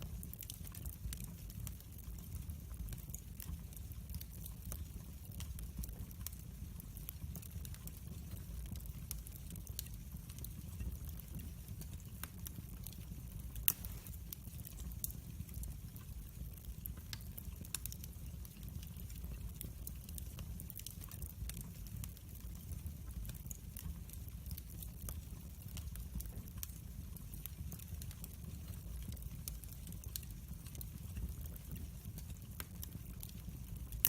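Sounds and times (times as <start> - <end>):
low fire rumble: 0.0 - 34.0
wood fire crackling and popping: 0.0 - 34.0.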